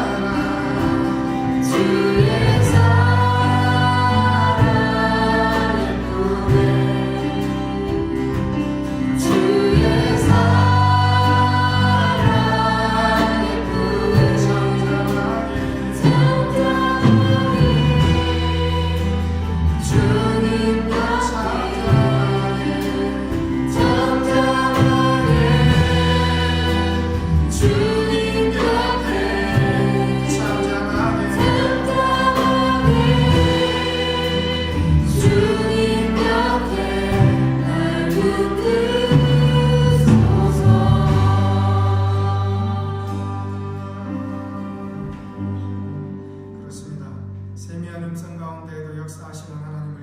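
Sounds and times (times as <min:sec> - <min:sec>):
group of voices singing: 0:00.0 - 0:45.9
band accompaniment: 0:00.0 - 0:49.6.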